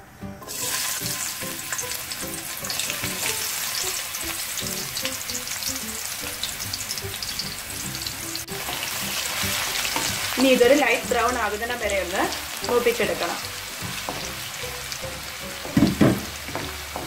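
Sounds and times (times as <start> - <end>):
coconut sizzling in hot oil: 0.4 - 17.0.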